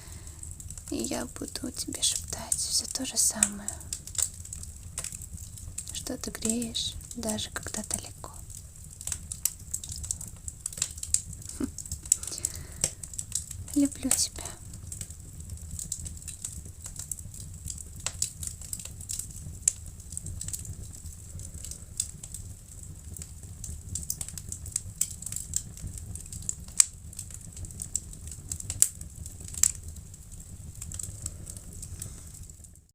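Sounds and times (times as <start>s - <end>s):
wood fire crackling: 0.0s - 32.9s.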